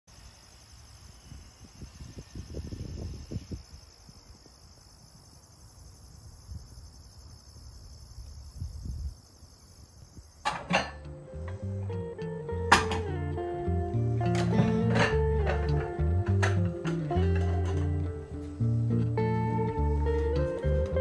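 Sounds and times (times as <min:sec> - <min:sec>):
crickets trilling: 0:00.1 - 0:21.0.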